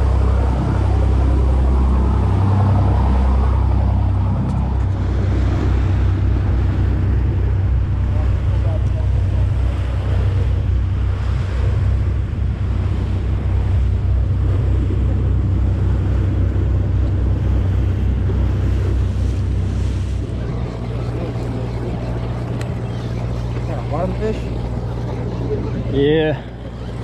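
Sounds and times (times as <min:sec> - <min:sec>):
boat engine running: 0:00.0 - 0:27.0
water noise: 0:00.0 - 0:27.0
wind: 0:00.0 - 0:27.0.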